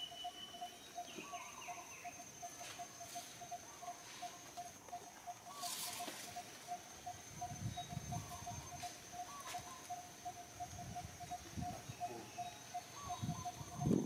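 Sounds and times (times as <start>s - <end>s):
rustle: 0.0s - 14.0s.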